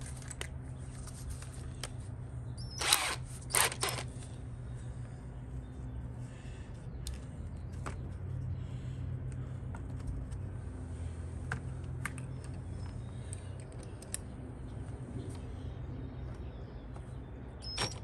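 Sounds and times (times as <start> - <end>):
low steady background hum: 0.0 - 18.0.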